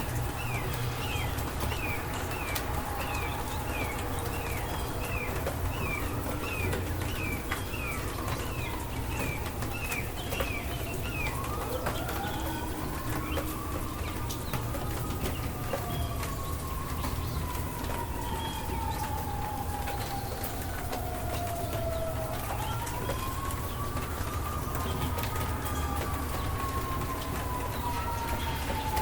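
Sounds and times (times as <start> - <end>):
bird chirping: 0.0 - 29.0
faint drip ticks: 0.0 - 29.0
steady rain: 0.0 - 29.0.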